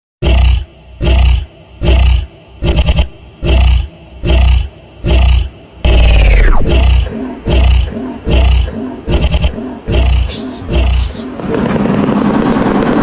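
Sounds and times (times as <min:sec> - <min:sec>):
deep animal roars: 0:00.2 - 0:11.4.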